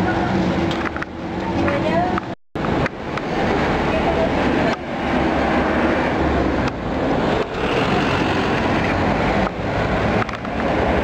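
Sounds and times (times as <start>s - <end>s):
scooter engine and road rumble: 0.0s - 11.0s.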